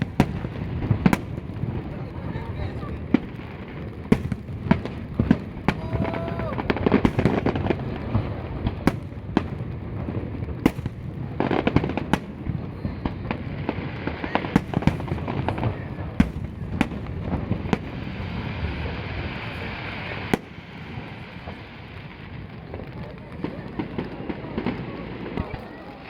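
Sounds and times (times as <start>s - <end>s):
fireworks booming: 0.0s - 26.0s
fireworks crackle: 0.0s - 26.0s.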